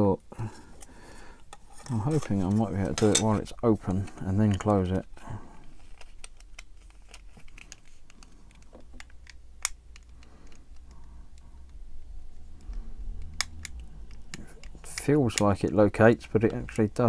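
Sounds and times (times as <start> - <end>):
plastic parts clicking: 0.7 - 11.8, 12.4 - 17.0.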